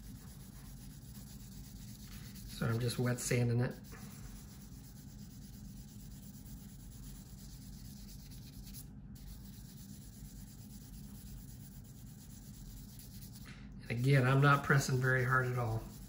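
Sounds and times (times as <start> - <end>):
sanding sponge rubbing on plastic: 0.0 - 13.4, 14.3 - 16.0.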